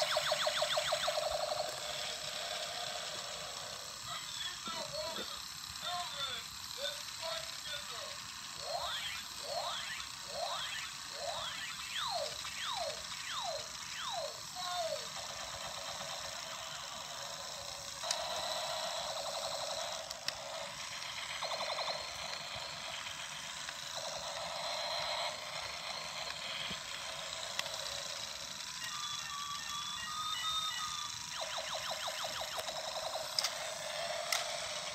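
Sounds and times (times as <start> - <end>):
toy robot laser zaps: 0.0 - 34.9.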